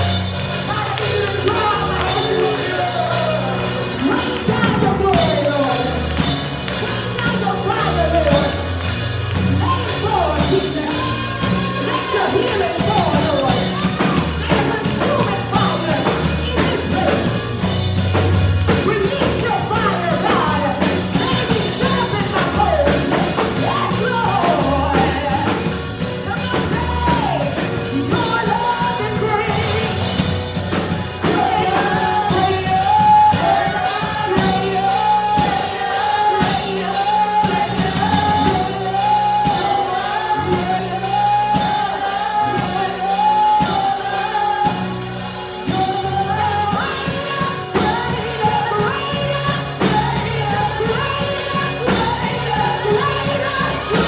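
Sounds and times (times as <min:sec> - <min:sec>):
gospel singing with band: 0:00.0 - 0:54.0
steady drum beat: 0:00.0 - 0:54.0.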